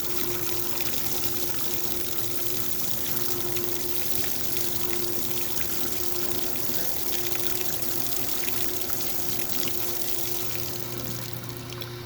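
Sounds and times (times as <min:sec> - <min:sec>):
rushing water: 0:00.0 - 0:11.8
dishwasher motor hum: 0:00.0 - 0:12.0.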